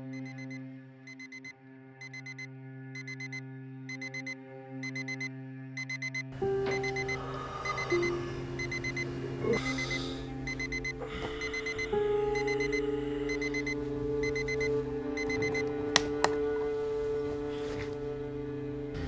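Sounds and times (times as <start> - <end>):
background music of low held notes: 0.0 - 19.0
digital alarm clock beeping: 0.1 - 15.7.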